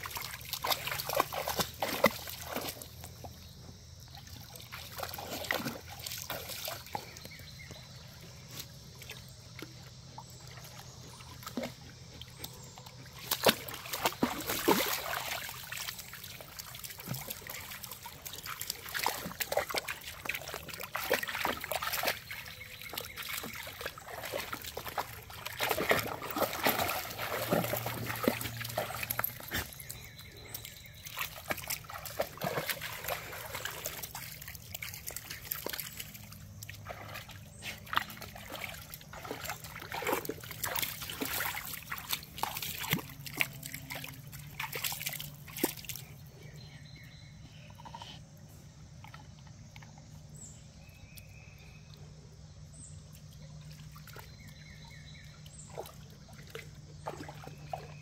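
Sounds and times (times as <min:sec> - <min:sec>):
dogs splashing through water: 0:00.0 - 0:48.2, 0:48.8 - 0:58.0
creek trickling: 0:00.0 - 0:58.0.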